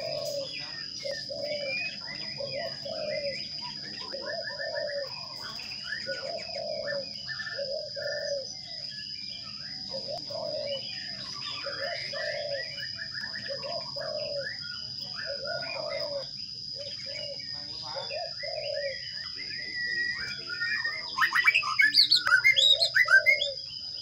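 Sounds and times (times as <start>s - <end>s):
low arched bird notes: 0.0s - 23.8s
birds chirping: 0.0s - 24.0s.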